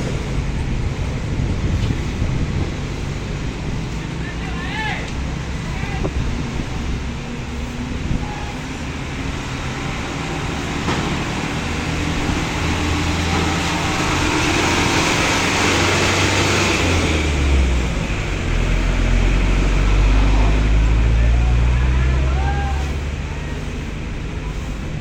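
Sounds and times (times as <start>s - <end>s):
deep engine rumble: 0.0s - 25.0s
traffic passing on road: 0.0s - 25.0s.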